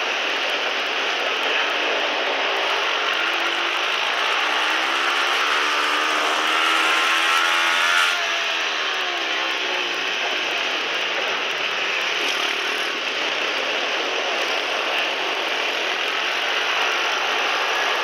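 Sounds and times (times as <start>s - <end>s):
dense rushing noise: 0.0s - 18.0s
pit bike engine running hard: 0.0s - 18.0s.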